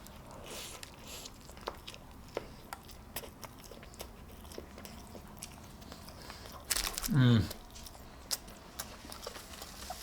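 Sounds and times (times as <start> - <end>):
close chewing: 0.0 - 10.0.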